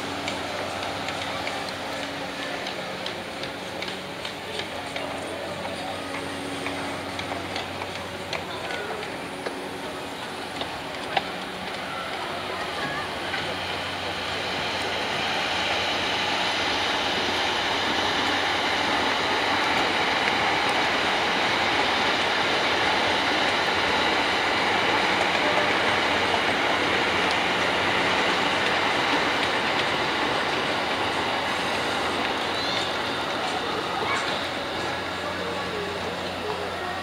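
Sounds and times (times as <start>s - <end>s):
wheels rumbling on rails: 0.0s - 37.0s.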